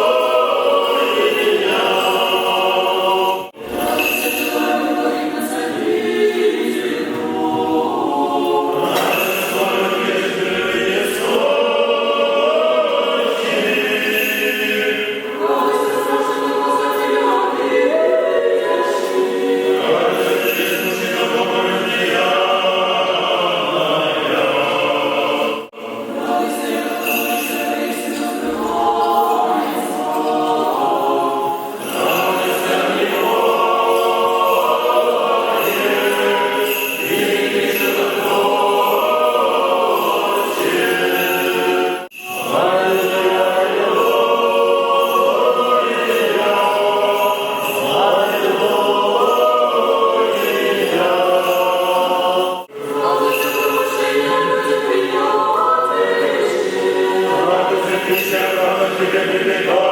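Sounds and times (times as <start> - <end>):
choir singing a cappella chant: 0.0 - 59.9.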